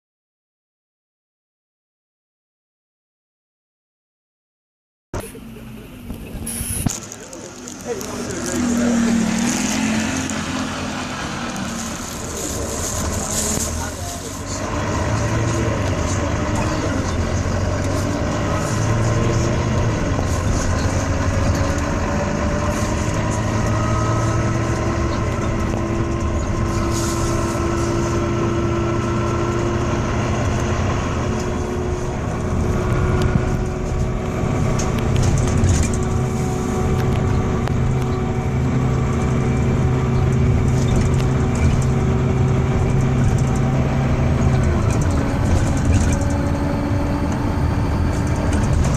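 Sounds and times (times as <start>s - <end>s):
bus engine drone: 5.2s - 48.9s.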